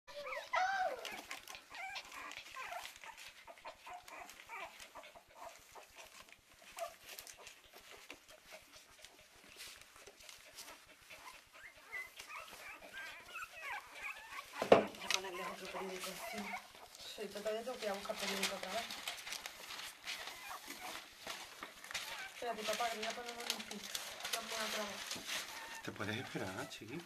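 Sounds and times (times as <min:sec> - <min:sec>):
puppies squeaking and whimpering: 0:00.1 - 0:27.0
paws scrabbling on paper: 0:00.2 - 0:27.0.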